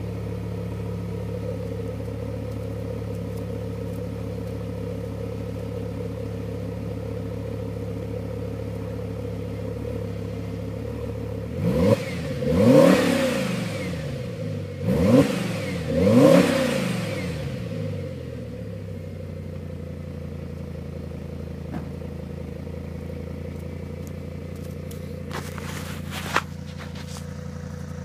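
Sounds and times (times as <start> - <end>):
car engine revving and idling: 0.0 - 28.0.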